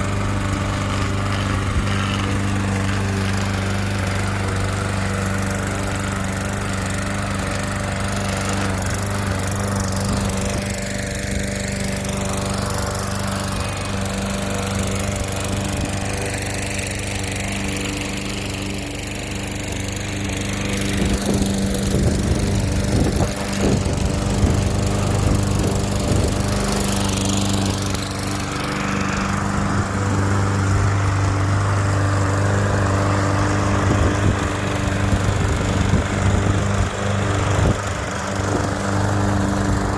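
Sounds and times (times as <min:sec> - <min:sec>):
gas lawn mower cutting grass: 0:00.0 - 0:39.9.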